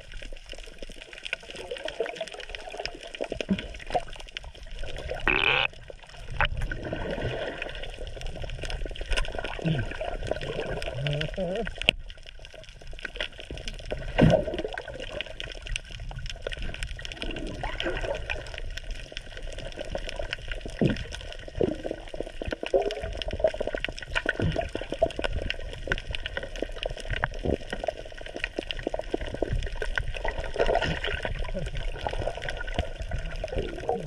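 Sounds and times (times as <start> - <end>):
muffled underwater rushing water: 0.0 - 34.0
faint underwater clicks: 0.1 - 34.0.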